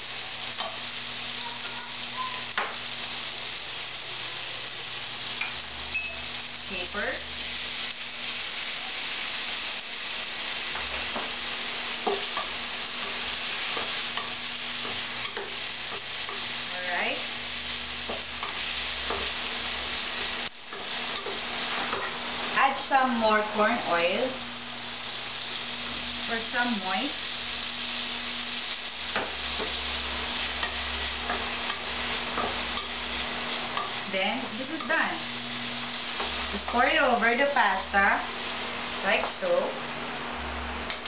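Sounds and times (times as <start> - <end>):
oil sizzling in a pan: 0.0 - 41.0.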